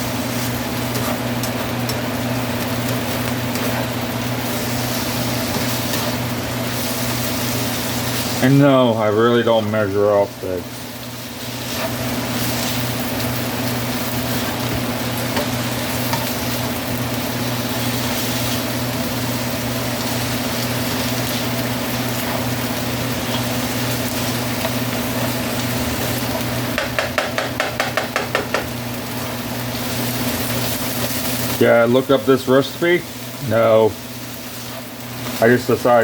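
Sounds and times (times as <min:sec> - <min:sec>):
stirring strokes in a pan: 0:00.0 - 0:36.0
vegetables sizzling in a frying pan: 0:00.0 - 0:36.0.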